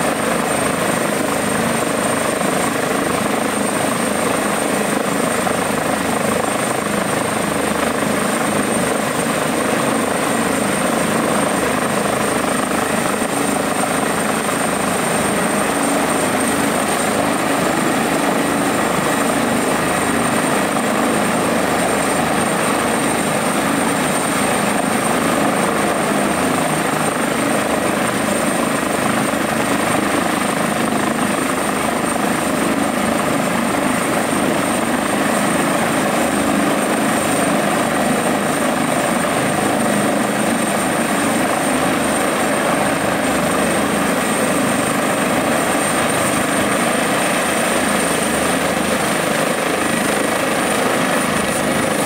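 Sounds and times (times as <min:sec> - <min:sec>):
helicopter rotor noise: 0:00.0 - 0:52.0.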